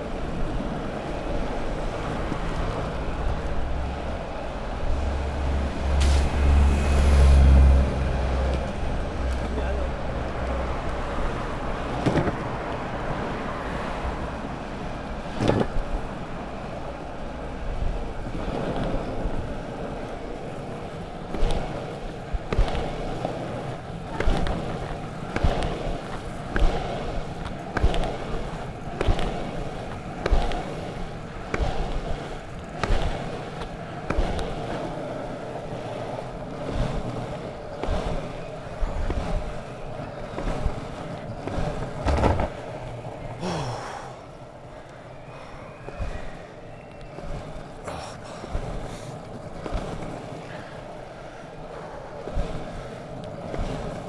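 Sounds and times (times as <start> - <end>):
longboard wheels rolling on asphalt: 0.0 - 54.0.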